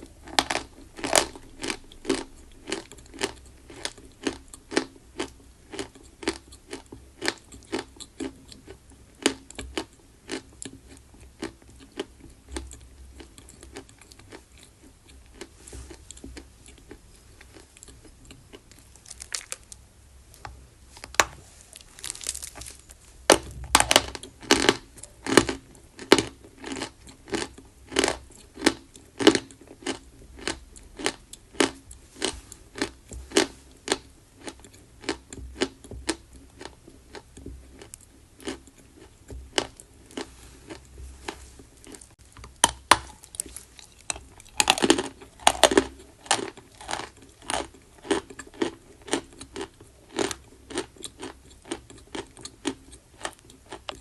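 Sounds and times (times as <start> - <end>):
crunching and chewing chalk: 0.0 - 54.0.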